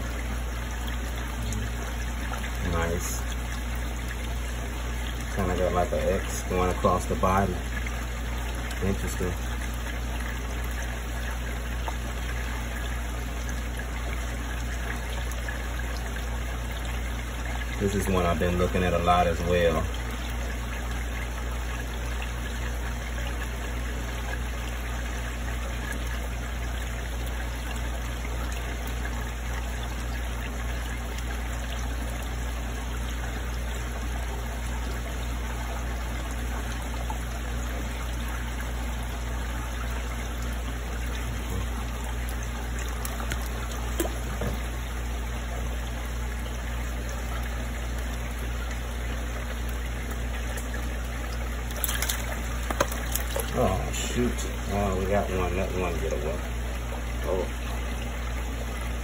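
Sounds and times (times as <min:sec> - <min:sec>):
constant low hum: 0:00.0 - 0:59.0
water trickling into tank: 0:00.0 - 0:59.0.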